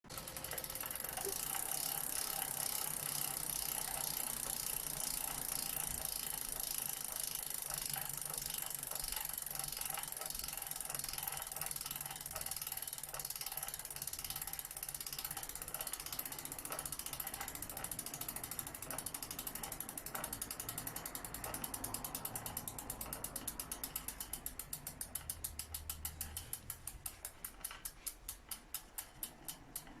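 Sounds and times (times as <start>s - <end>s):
bicycle freehub ratcheting: 0.1s - 30.0s.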